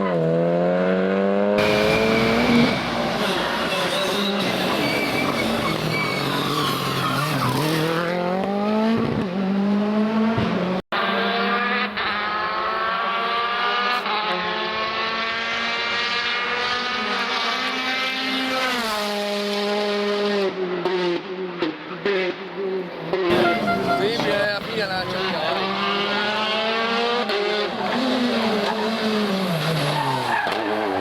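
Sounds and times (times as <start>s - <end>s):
car engine at high revs: 0.0s - 31.0s
rally car engine at full throttle: 0.0s - 31.0s.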